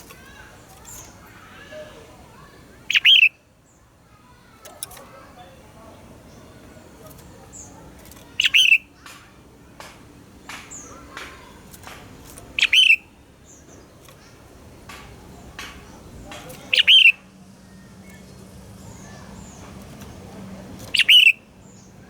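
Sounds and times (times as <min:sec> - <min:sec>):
soft bird chirps and clicks: 0:00.0 - 0:01.6, 0:02.9 - 0:05.4, 0:06.3 - 0:22.0
bird song phrases: 0:00.0 - 0:22.0.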